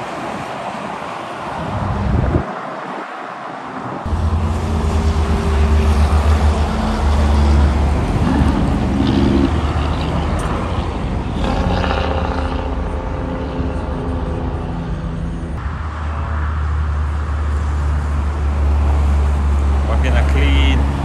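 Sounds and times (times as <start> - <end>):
higher-pitched traffic sound: 0.0 - 21.0
truck driving past: 4.0 - 21.0.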